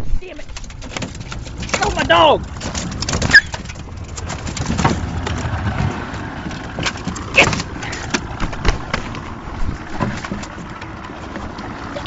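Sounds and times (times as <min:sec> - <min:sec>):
knocks and thumps: 0:00.5 - 0:11.6.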